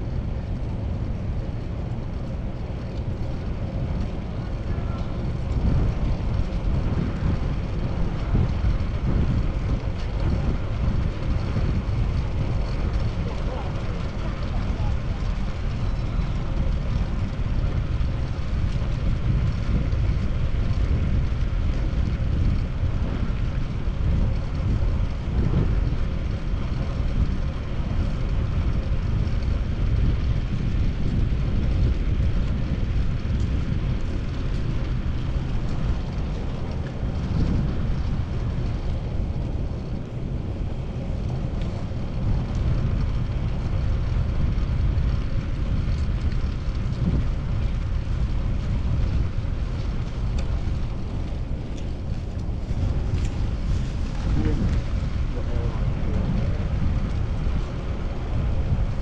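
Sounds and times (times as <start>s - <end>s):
road and traffic noise: 0.0s - 59.0s
wind rumble on microphone: 0.0s - 59.0s.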